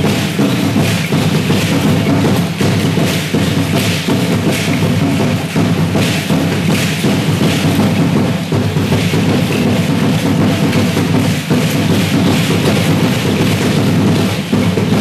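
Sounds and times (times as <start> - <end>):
large drum beaten steadily: 0.0 - 15.0
shaking rattles: 0.0 - 15.0.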